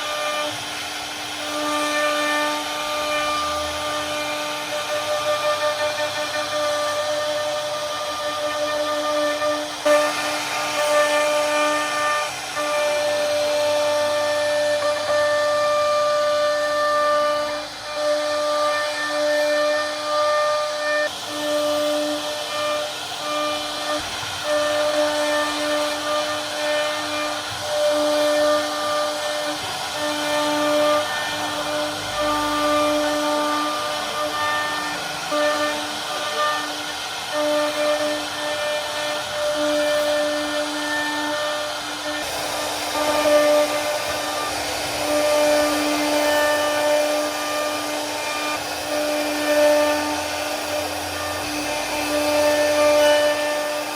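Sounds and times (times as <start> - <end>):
router spindle whining: 0.0 - 53.9
steady hiss: 0.0 - 53.9.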